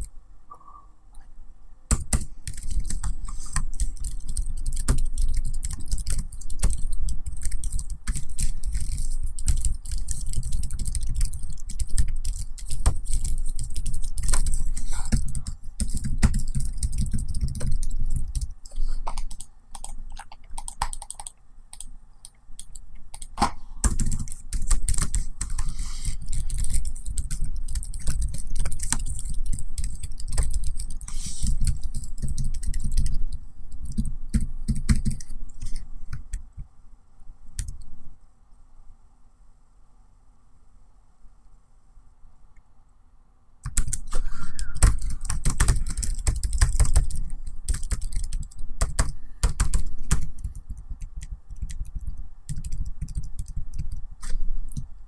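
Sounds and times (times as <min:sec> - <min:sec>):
laptop keyboard typing: 0:01.9 - 0:36.7, 0:37.6 - 0:37.9, 0:43.6 - 0:54.9.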